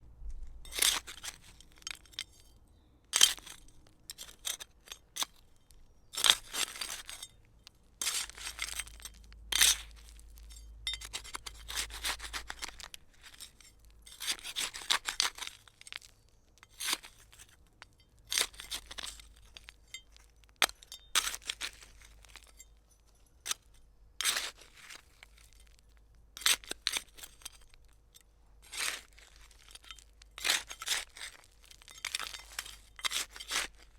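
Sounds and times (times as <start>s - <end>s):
trowel scraping gritty soil: 0.6s - 7.4s, 8.0s - 25.8s, 26.4s - 28.0s, 28.6s - 33.9s
stones clinking against blade: 0.6s - 25.7s, 26.4s - 33.9s.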